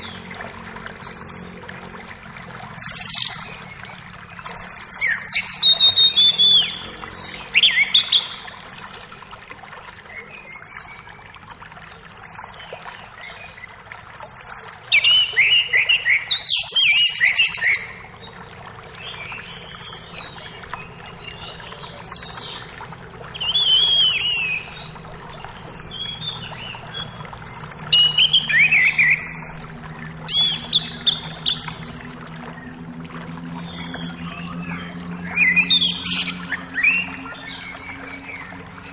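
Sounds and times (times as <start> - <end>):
creek water rushing: 0.0 - 38.9
songbirds singing: 0.0 - 38.9.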